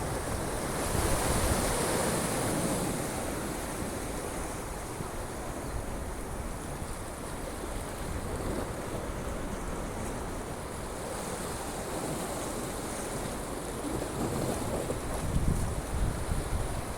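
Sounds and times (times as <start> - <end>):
wind on microphone: 0.0 - 9.8, 11.8 - 16.9
sea waves washing on shore: 0.0 - 16.9.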